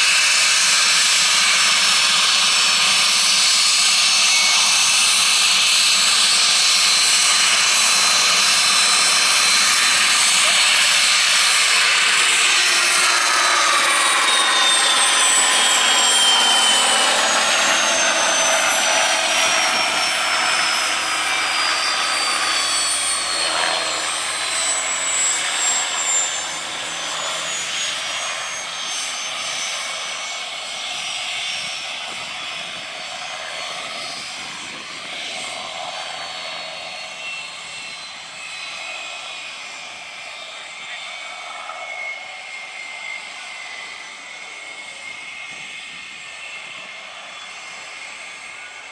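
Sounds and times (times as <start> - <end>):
jet engines spooling down: 0.0 - 48.9.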